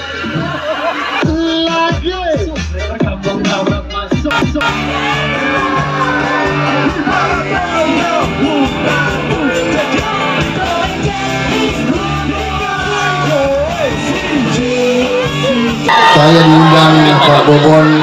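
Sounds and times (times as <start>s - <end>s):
live band with horns and guitars: 0.0s - 18.0s
person singing: 2.7s - 18.0s.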